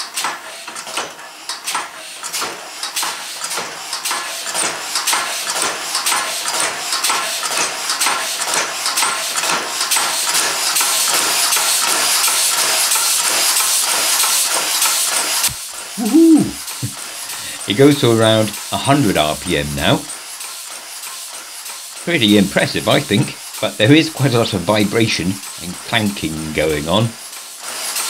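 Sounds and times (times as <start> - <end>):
air engine clanking and puffing: 0.0 - 15.9, 16.7 - 28.0.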